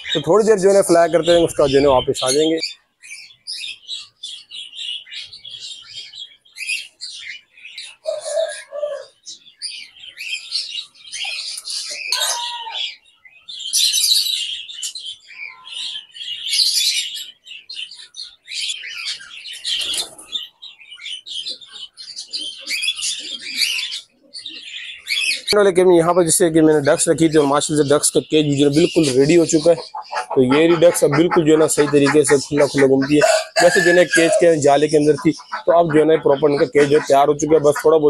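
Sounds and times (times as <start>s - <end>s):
cage birds chirping: 0.0s - 38.0s.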